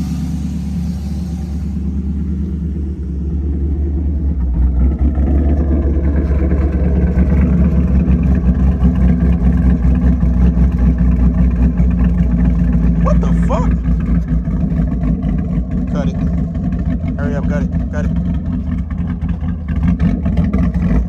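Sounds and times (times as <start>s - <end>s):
lumpy car engine running: 0.0s - 21.0s.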